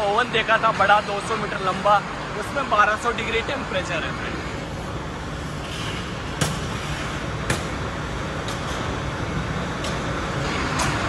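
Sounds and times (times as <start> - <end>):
factory machinery rumbling: 0.0 - 11.0.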